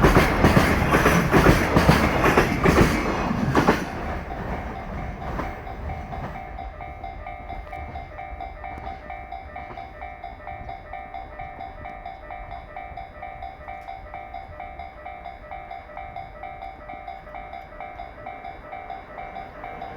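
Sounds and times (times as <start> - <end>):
freight train rumbling: 0.0 - 19.9
level crossing warning bell ringing: 0.0 - 19.9.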